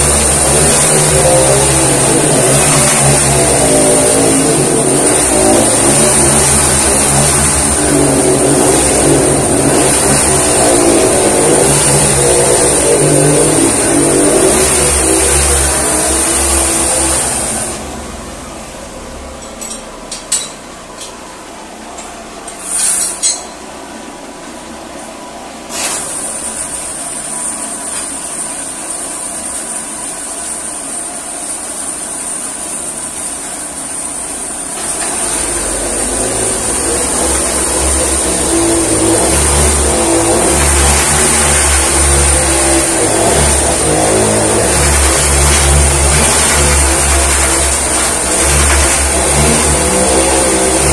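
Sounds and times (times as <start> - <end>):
small engine running with whine: 0.0 - 19.8, 25.7 - 50.9.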